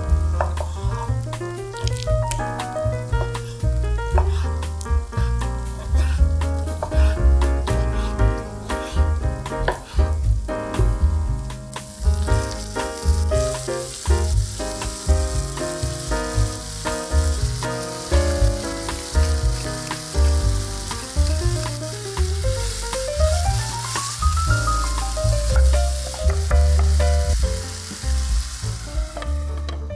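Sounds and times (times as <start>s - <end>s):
background music with steady beat: 0.0s - 29.9s
food sizzling in a pan: 0.0s - 29.9s.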